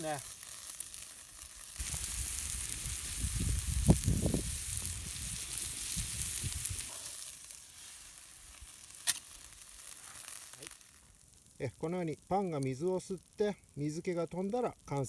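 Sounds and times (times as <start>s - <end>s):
food sizzling in frying pan: 0.0s - 13.2s.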